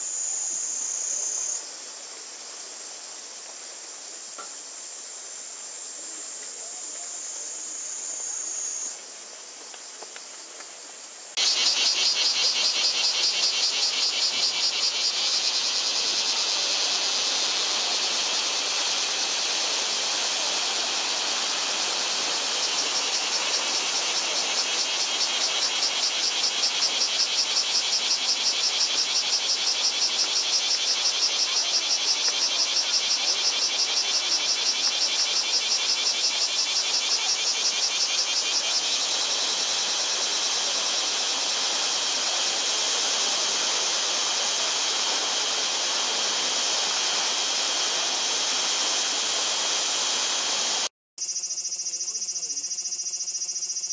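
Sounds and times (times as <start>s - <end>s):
cicadas buzzing: 0.0s - 53.9s
rapidly pulsing cicada call: 0.0s - 53.9s.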